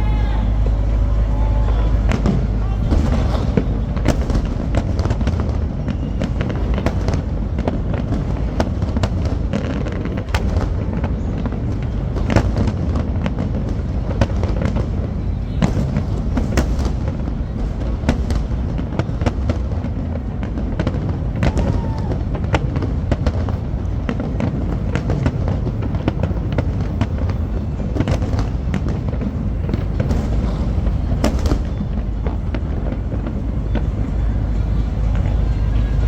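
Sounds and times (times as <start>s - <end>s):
crowd voices: 0.0s - 36.0s
fireworks bangs and crackles: 0.0s - 36.0s
low rumble: 0.0s - 36.0s.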